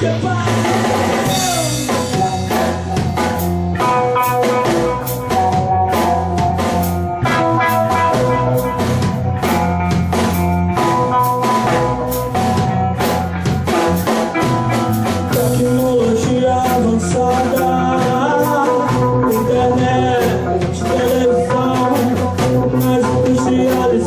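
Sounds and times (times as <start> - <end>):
bass guitar: 0.0 - 24.0
drum kit beat: 0.0 - 24.0
electric guitar chords: 0.0 - 24.0.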